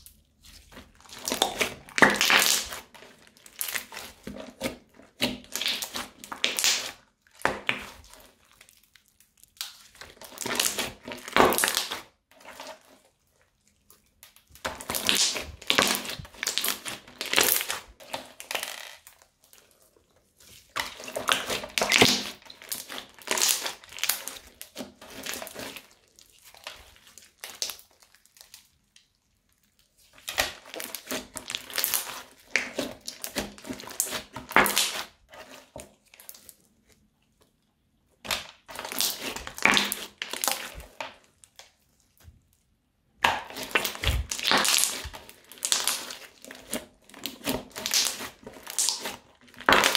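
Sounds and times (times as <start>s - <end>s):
crunchy slime crackling and squishing: 0.0s - 49.9s.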